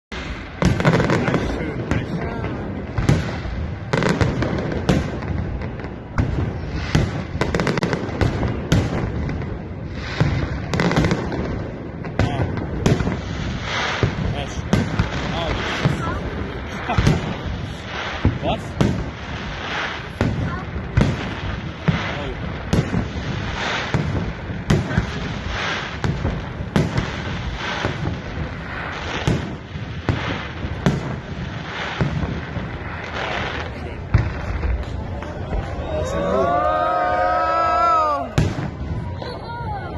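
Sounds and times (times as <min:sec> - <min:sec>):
sharp bangs and pops: 0:00.1 - 0:35.8, 0:38.2 - 0:39.4
crackles: 0:00.1 - 0:39.9.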